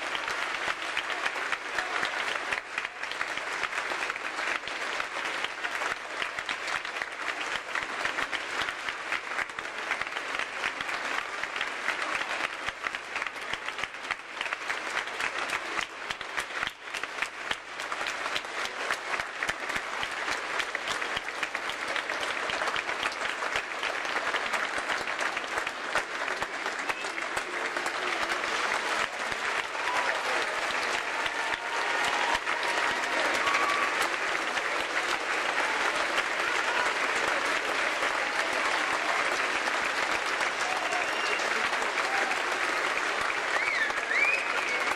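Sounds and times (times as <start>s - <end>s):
large audience applauding: 0.0s - 44.9s.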